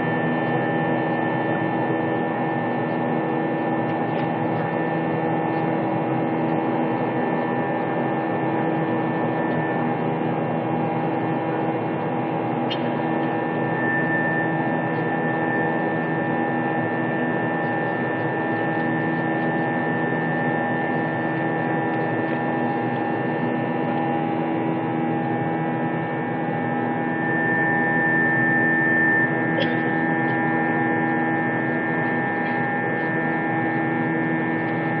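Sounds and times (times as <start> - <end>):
airliner engines droning in cabin: 0.0 - 35.0.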